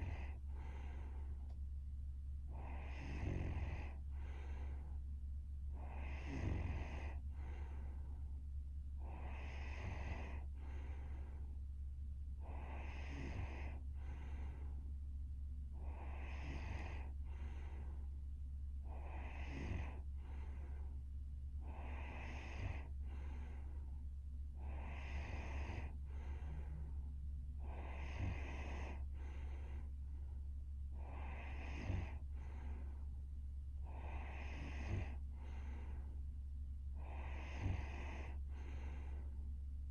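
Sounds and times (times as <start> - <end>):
woman breathing with light snore: 0.0 - 1.6, 2.4 - 11.7, 12.3 - 15.0, 15.6 - 39.9
steady low hum: 0.0 - 39.9.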